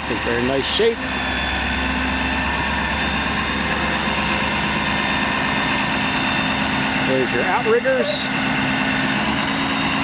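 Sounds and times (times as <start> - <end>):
diesel engine running: 0.0 - 10.0
steady whine: 0.0 - 10.0.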